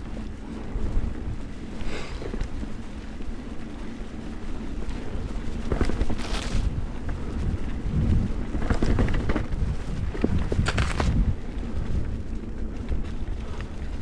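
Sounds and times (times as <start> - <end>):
bike rattling and knocking: 0.0 - 14.0
wind and tyre rumble: 0.0 - 14.0.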